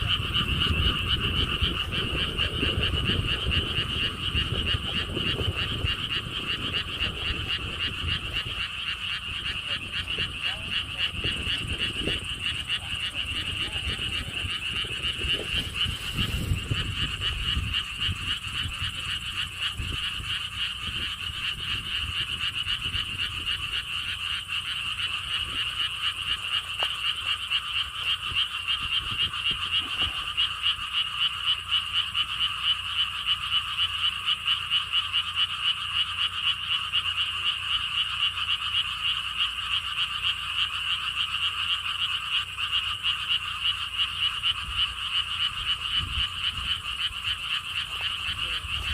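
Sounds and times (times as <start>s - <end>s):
frogs croaking in chorus: 0.0s - 48.9s.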